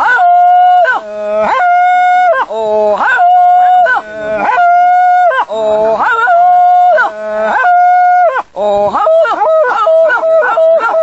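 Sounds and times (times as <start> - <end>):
men howling: 0.0 - 11.0.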